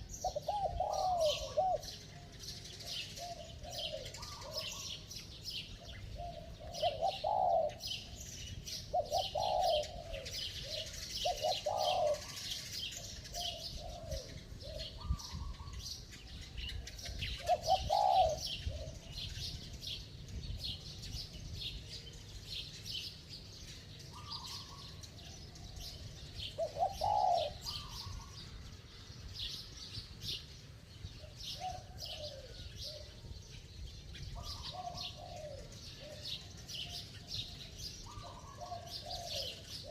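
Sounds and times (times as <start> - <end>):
dove cooing: 0.0 - 19.7, 24.1 - 28.7, 31.1 - 33.4, 34.2 - 39.9
small birds chirping: 0.0 - 39.9.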